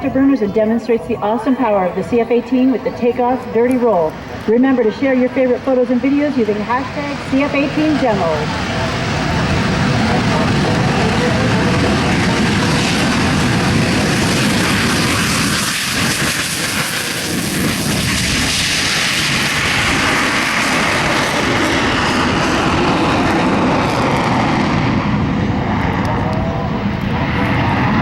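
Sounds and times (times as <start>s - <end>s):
jet engines in afterburner: 0.0s - 28.0s.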